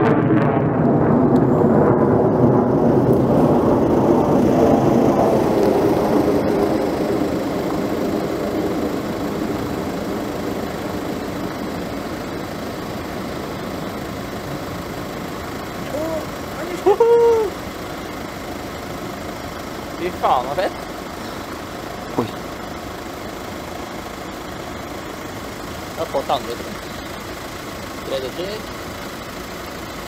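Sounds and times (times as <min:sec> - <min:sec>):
rocket motor rumble: 0:00.0 - 0:30.0.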